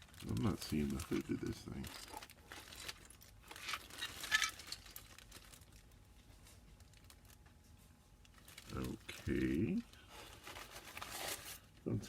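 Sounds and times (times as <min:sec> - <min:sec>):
plastic bags crinkling: 0:00.0 - 0:07.6, 0:08.2 - 0:11.9.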